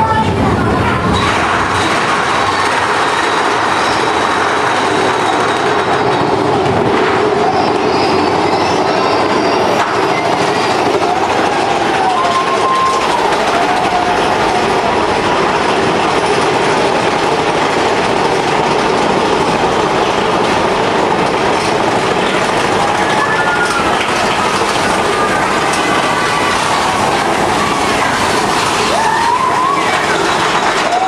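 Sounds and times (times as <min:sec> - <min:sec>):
roller coaster rumble and rattle: 0:00.0 - 0:31.0.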